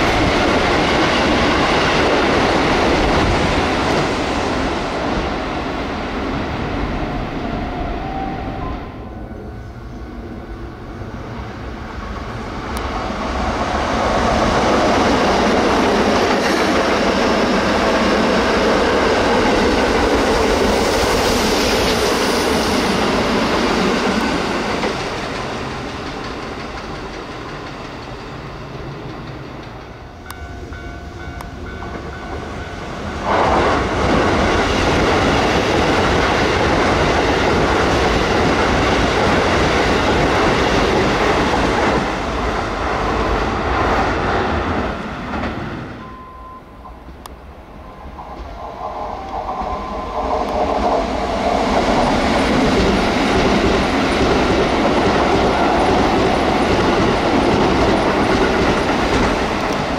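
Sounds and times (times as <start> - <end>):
another train passing: 0.0 - 59.9
train approaching: 0.0 - 59.9
train rushing past on rails: 0.0 - 59.9.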